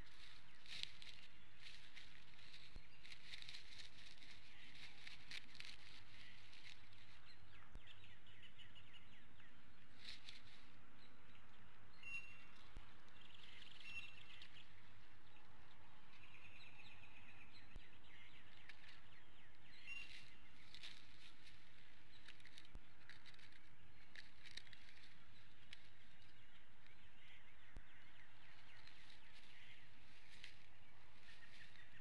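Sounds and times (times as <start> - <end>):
bird chirps and trills: 0.0 - 32.0.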